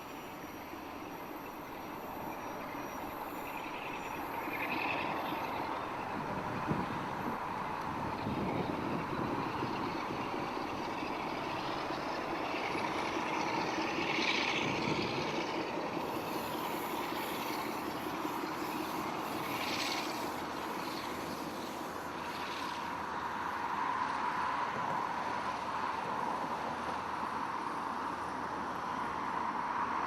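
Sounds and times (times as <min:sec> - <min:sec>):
diesel locomotive engine running: 0:00.0 - 0:30.0
rail noise: 0:00.0 - 0:30.0.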